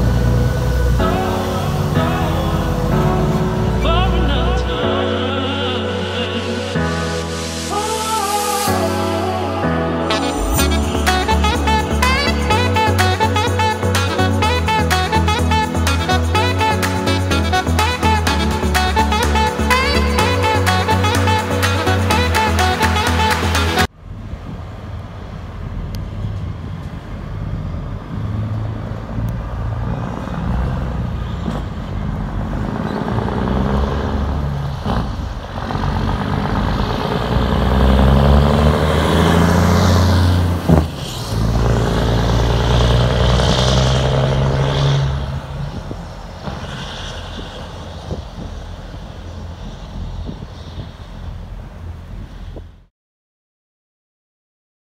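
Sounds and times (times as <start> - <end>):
truck engine driving past: 0.0 - 7.6, 8.6 - 52.3.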